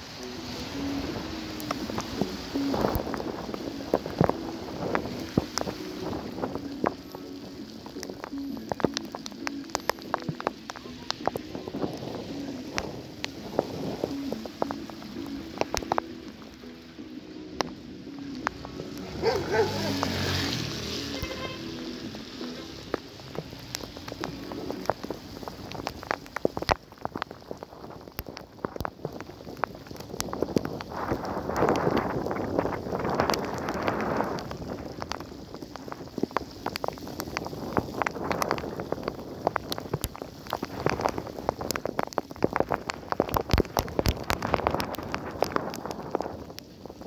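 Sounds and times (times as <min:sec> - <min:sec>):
rain and snow hiss: 0:00.0 - 0:47.0
grit ticking on microphone: 0:00.1 - 0:47.0.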